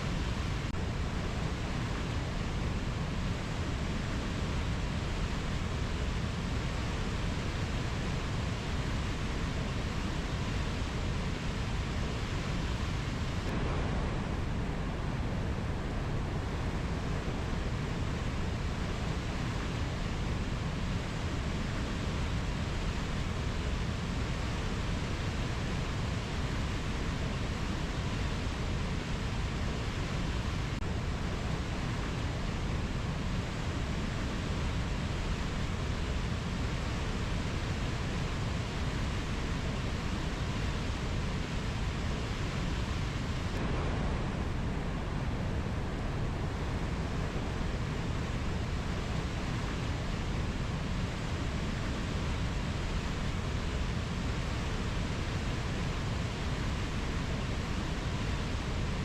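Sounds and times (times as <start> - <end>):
steady rushing rainforest ambience: 0.0 - 59.0.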